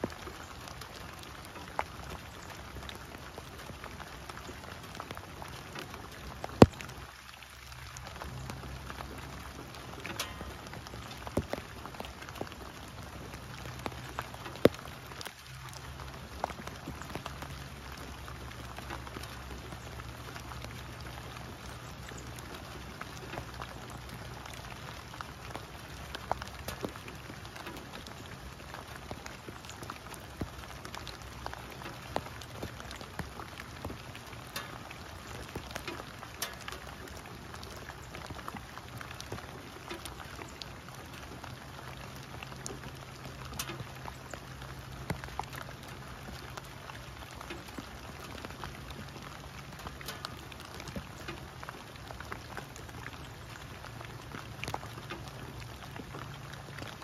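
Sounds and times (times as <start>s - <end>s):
rain on leaves and water: 0.0s - 57.0s.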